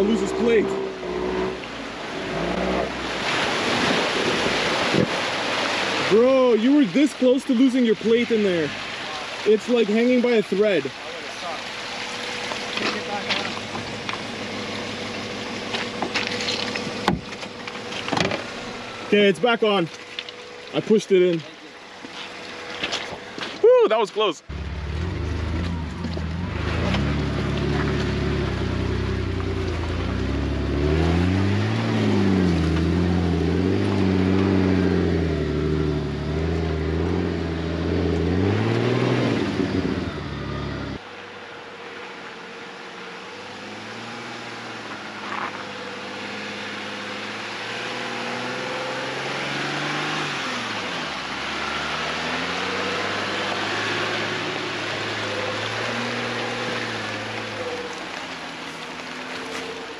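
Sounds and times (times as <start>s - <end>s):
fainter engine: 0.0s - 3.3s, 9.4s - 59.9s
off-road vehicle engine revving: 0.0s - 21.4s, 24.4s - 41.0s, 42.3s - 59.9s.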